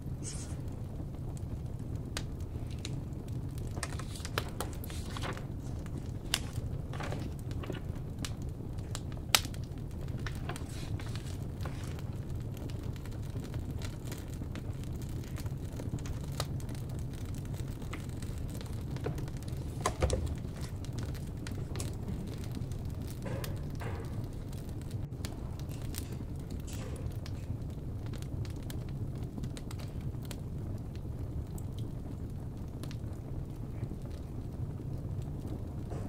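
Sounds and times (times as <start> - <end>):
firewood crackling and popping: 0.0 - 36.0
low fire rumble: 0.0 - 36.0.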